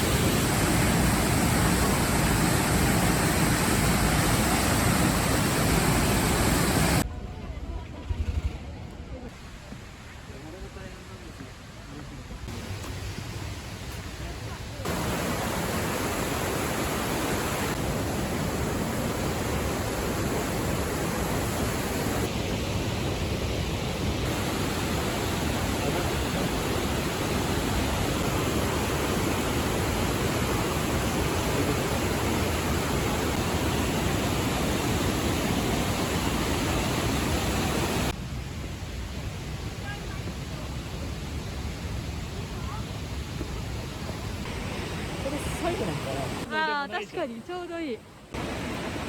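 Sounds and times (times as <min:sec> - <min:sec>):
waterfall roaring: 0:00.0 - 0:07.0, 0:12.5 - 0:38.5, 0:39.3 - 0:47.2, 0:48.3 - 0:49.0.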